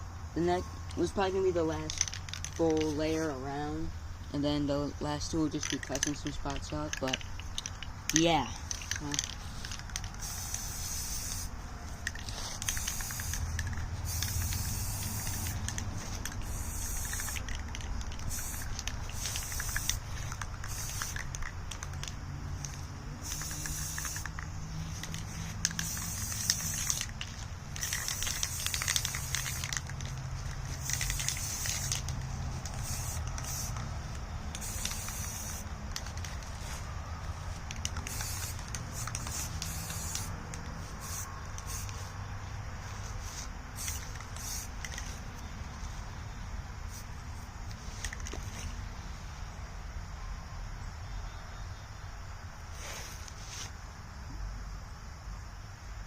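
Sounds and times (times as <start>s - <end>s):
spray paint can hissing: 0.4s - 42.2s, 42.8s - 46.0s, 46.9s - 48.7s, 52.7s - 53.7s.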